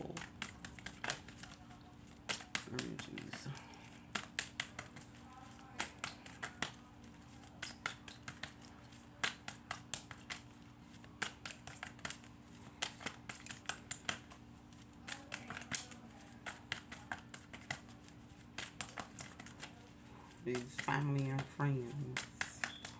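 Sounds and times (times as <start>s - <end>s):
cards being shuffled: 0.0s - 22.9s.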